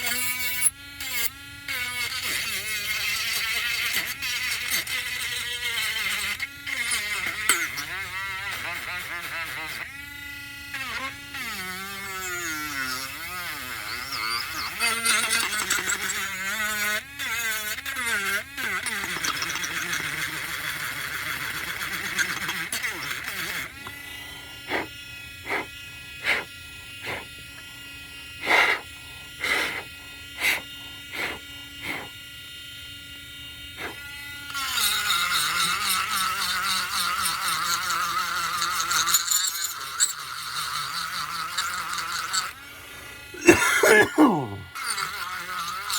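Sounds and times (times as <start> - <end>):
electric sanding tool motor: 0.0 - 45.9.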